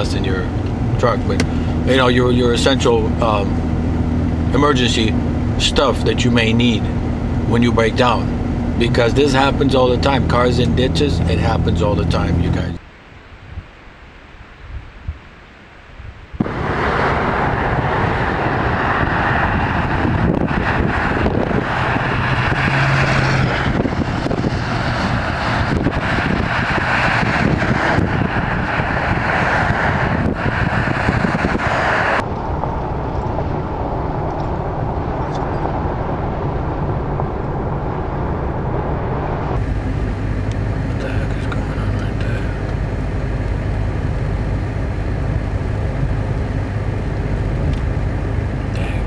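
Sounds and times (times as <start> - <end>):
car road and wind noise: 0.0 - 49.0.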